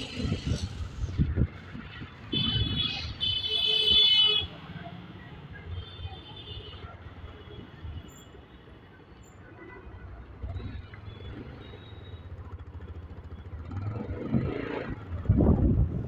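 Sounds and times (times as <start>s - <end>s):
motorcycle engine and road rumble: 0.0s - 16.0s.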